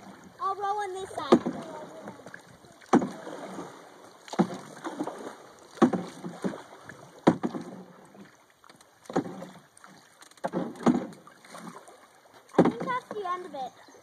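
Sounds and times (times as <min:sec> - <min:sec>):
canoe paddles splashing: 0:00.0 - 0:14.0.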